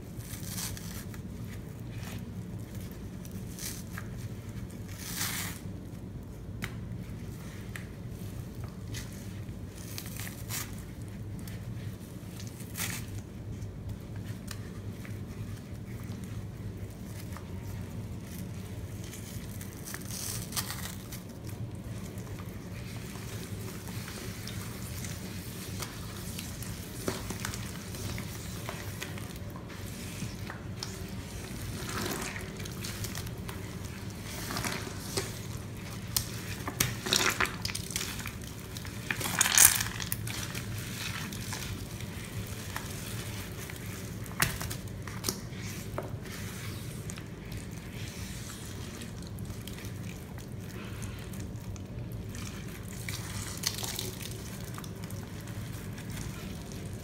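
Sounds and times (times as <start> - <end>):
squishing wet sponge paste: 0.0 - 57.0.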